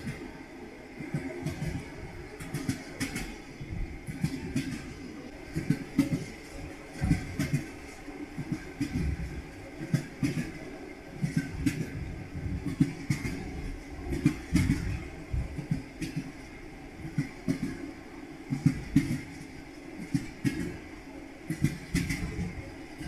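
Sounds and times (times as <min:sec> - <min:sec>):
train wheels clattering over rail joints: 0:01.1 - 0:17.9, 0:18.5 - 0:23.0.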